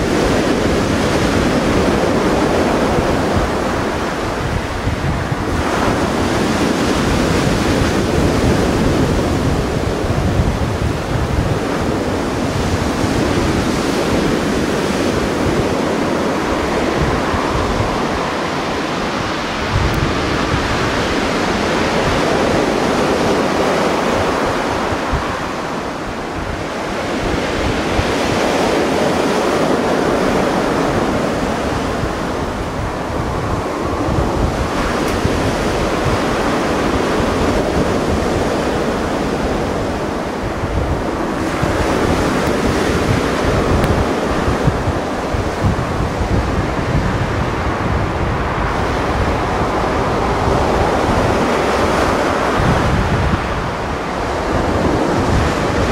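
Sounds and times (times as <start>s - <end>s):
waves washing ashore: 0.0s - 55.9s
wind buffeting microphone: 0.0s - 55.9s.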